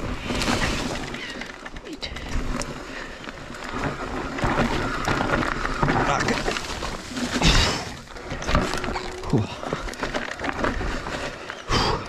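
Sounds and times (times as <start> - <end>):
bike clicks and rattles: 0.0 - 12.0
tyre and wind noise: 0.0 - 12.0.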